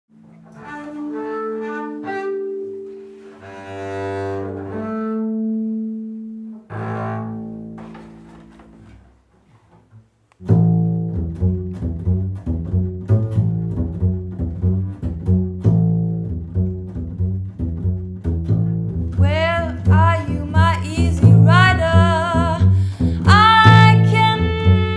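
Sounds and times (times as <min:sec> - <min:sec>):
bowed double bass: 0:00.1 - 0:24.9
plucked double bass: 0:00.2 - 0:24.9.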